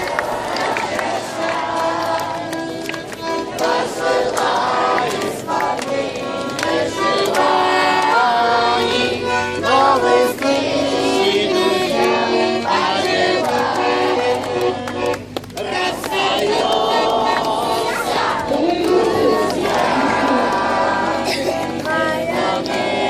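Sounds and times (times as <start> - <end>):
children singing together: 3.2 - 23.0.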